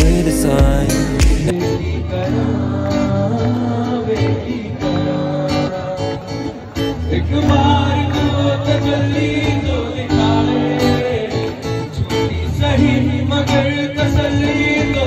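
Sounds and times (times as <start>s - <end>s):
acoustic guitar strumming: 0.0s - 15.0s
man singing into a microphone: 0.0s - 15.0s.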